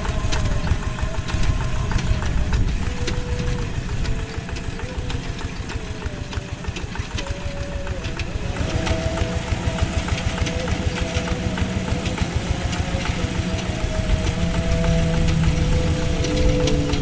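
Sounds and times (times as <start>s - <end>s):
walking tractor diesel engine running: 0.0s - 17.0s
whining tone: 0.0s - 17.0s.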